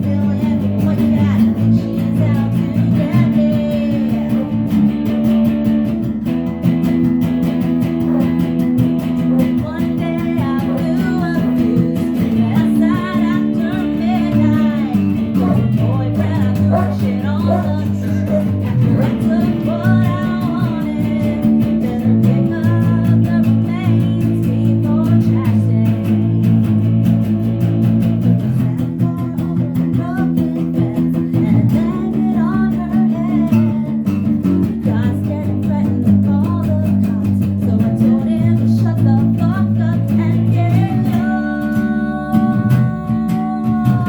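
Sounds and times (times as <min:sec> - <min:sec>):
person singing: 0:00.0 - 0:05.6, 0:07.8 - 0:27.3, 0:27.9 - 0:44.0
guitar accompaniment: 0:00.0 - 0:44.0.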